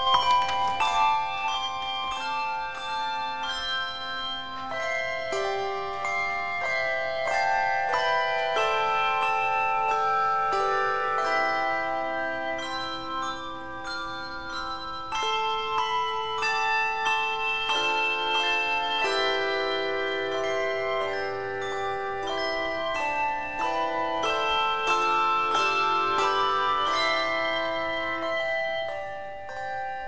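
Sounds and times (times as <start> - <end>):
handbell choir ringing a hymn: 0.0 - 30.0.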